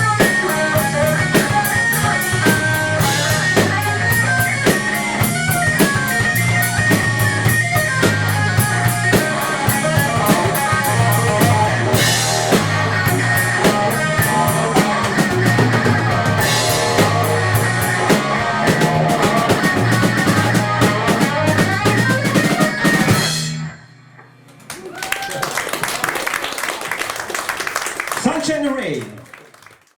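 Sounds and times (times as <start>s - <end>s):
rock band playing: 0.0s - 28.6s.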